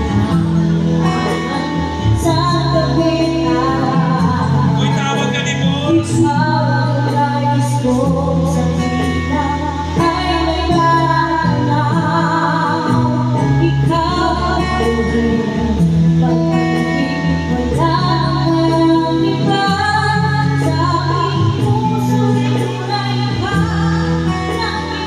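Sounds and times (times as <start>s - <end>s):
amplified instrumental backing music: 0.0s - 25.0s
woman singing into a microphone: 0.0s - 25.0s.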